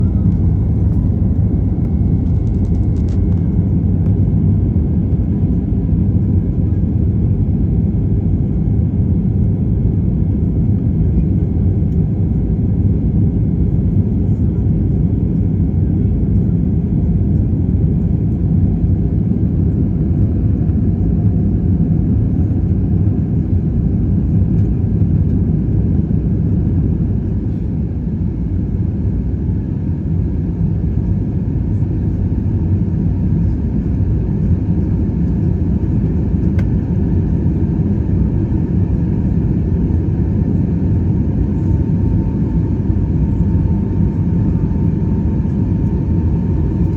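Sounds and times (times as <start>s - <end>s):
jet airliner cabin rumble: 0.0s - 46.9s.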